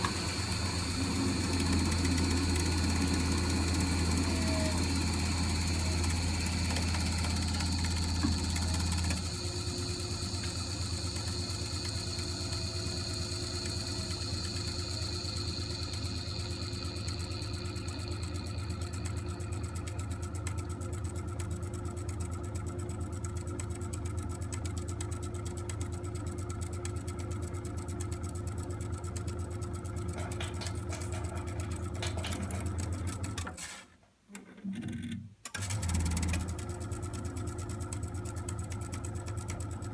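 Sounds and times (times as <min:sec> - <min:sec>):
boiler pump humming and rattling: 0:00.0 - 0:33.6, 0:35.4 - 0:39.9.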